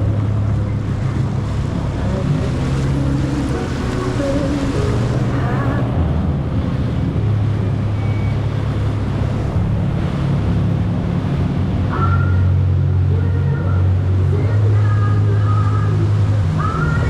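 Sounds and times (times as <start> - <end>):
jet ski engine running: 0.0 - 17.0
water rushing: 0.0 - 17.0
wind buffeting microphone: 0.0 - 17.0.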